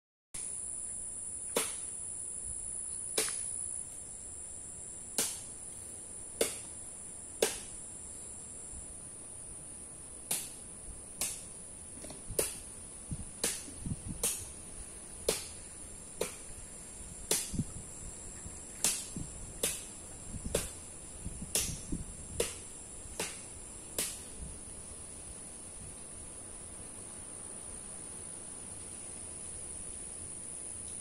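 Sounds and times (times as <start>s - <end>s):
insects droning: 0.4s - 31.0s.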